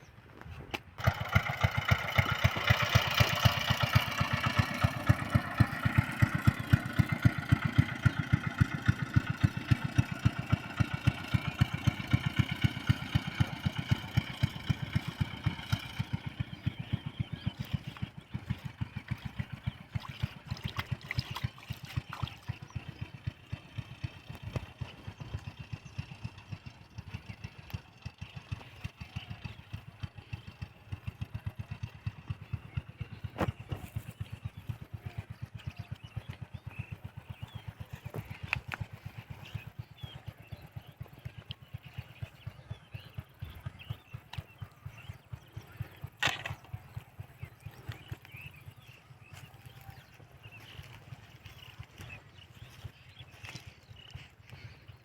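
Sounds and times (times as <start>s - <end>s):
small engine puttering: 0.0s - 55.0s.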